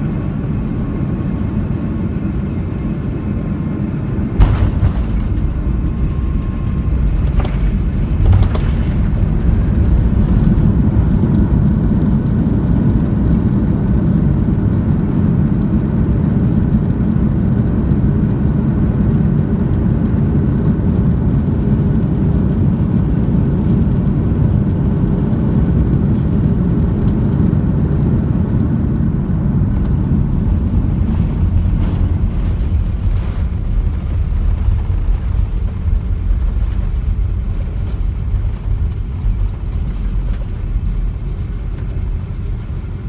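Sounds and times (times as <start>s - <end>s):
airliner engines and wheels rumbling: 0.0s - 43.0s.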